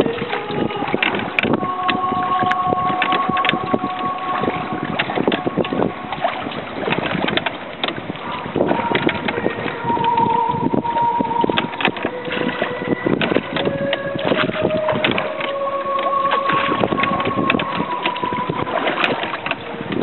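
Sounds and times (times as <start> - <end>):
oars knocking in rowlocks: 0.0 - 20.0
oars splashing: 0.0 - 20.0
slow tune of long held notes: 0.0 - 20.0.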